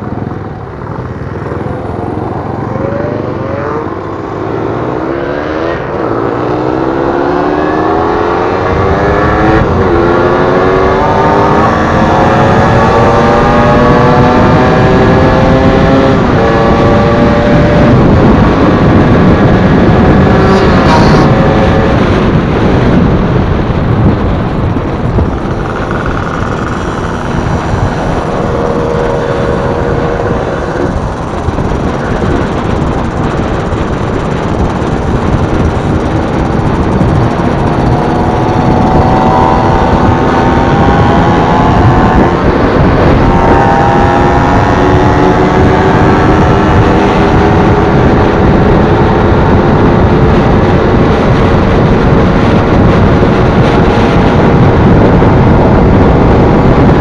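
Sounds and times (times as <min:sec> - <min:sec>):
motorcycle engine running: 0:00.0 - 0:57.0
rushing wind and road noise: 0:00.0 - 0:57.0.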